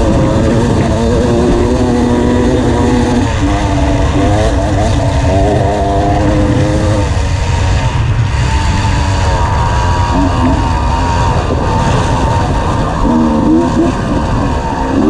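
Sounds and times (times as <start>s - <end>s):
off-road motorcycle engine: 0.0s - 15.0s
wind rush on microphone: 0.0s - 15.0s.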